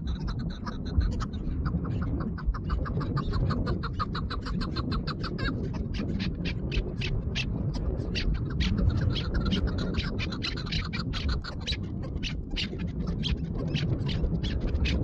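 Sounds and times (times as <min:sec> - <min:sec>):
partridge clucking calls: 0:00.0 - 0:15.0.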